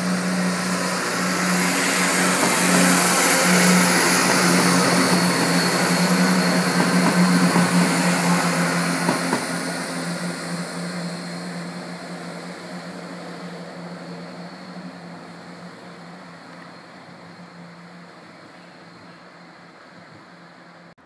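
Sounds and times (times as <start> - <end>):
diesel train engine hum: 0.0 - 21.0.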